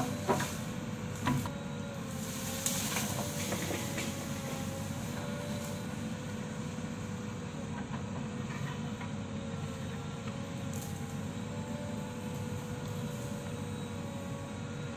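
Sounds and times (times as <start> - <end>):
diesel engine under load: 0.0 - 14.9.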